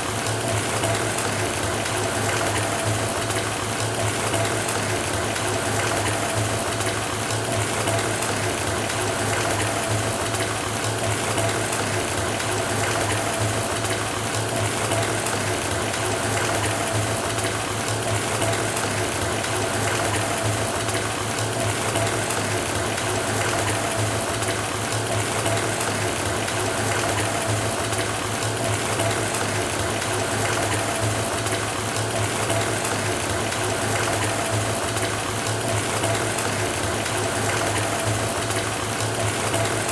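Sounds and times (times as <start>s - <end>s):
faucet filling bathtub: 0.0s - 39.9s.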